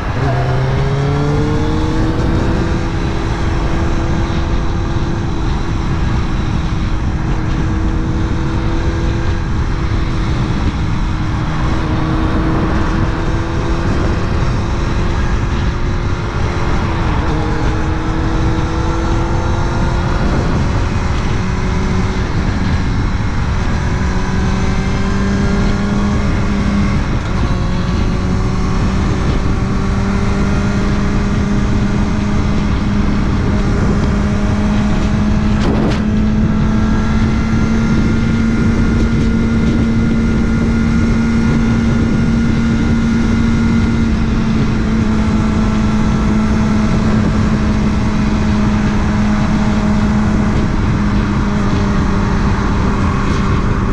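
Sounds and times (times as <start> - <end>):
heavy wind rush: 0.0 - 53.9
motorcycle engine cruising: 0.0 - 53.9.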